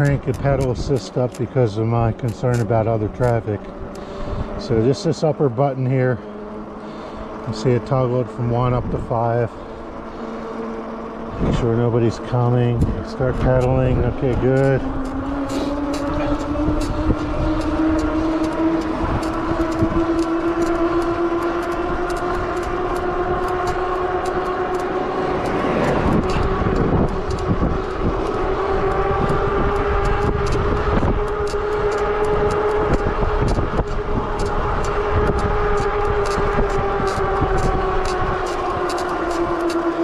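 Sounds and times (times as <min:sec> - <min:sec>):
wind buffeting microphone: 0:00.0 - 0:40.0
electric bike motor whining: 0:06.2 - 0:40.0.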